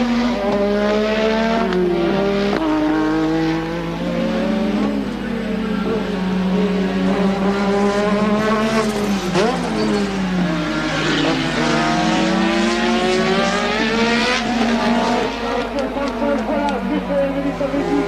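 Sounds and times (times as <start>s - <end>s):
racing car engine at speed: 0.0s - 18.0s.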